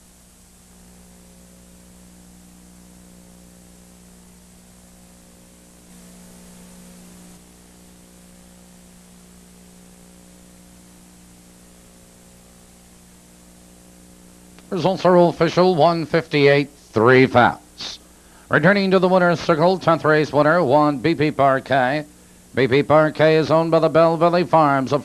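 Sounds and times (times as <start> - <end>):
electrical hum: 0.0 - 25.0
tape hiss: 0.0 - 25.0.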